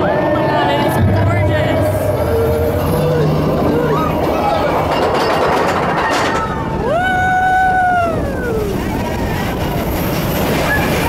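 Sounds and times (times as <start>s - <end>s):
roller coaster rumbling: 0.0s - 11.0s.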